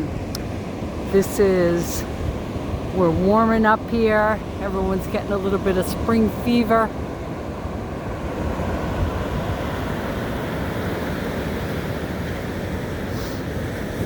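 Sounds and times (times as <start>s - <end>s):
ocean surf washing onto beach: 0.0s - 14.0s
wind rumbling on microphone: 0.0s - 14.0s.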